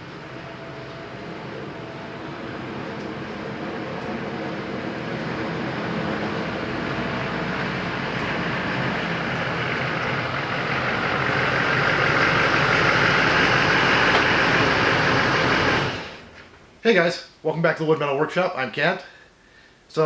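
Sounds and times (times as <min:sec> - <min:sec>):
truck engine running: 0:00.0 - 0:16.4.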